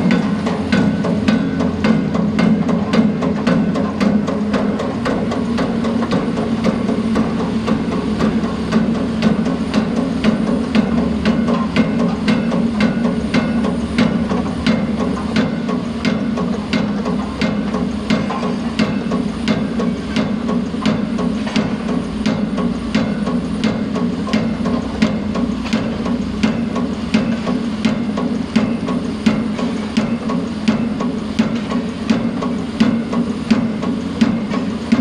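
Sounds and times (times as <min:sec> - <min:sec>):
diesel engine drone: 0:00.0 - 0:35.0
hydraulic pile hammer striking: 0:00.0 - 0:35.0.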